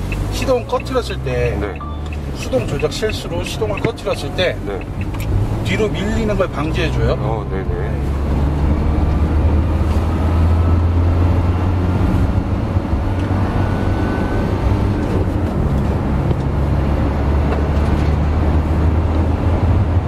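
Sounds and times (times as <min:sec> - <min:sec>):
diesel engine running: 0:00.0 - 0:18.2
road and tyre noise: 0:00.0 - 0:20.0.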